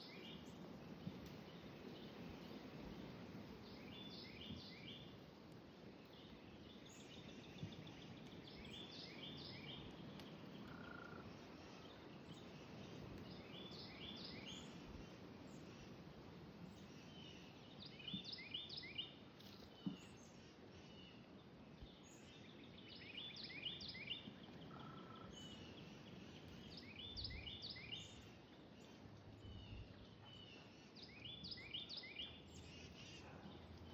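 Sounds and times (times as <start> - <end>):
songbird singing: 0.0 - 5.2, 5.8 - 16.0, 16.6 - 33.9
low background hiss: 0.0 - 33.9.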